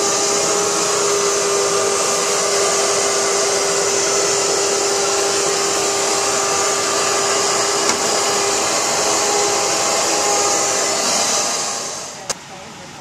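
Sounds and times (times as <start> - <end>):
rushing air: 0.0 - 12.2
constant hum: 0.0 - 13.0.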